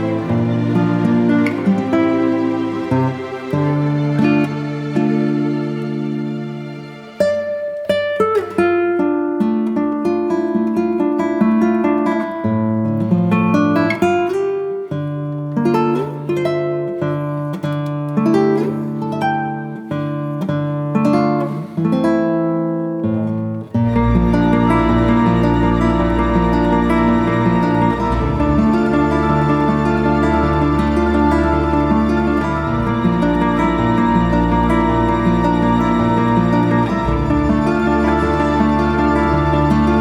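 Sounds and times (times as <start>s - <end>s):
acoustic guitar melody: 0.0s - 40.0s.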